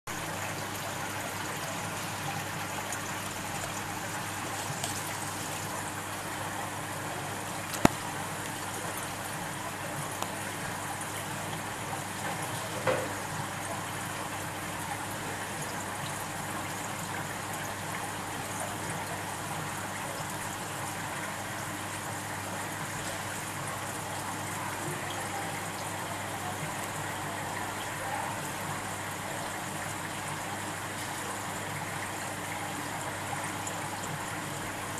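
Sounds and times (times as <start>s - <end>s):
aquarium water trickling: 0.1s - 34.9s.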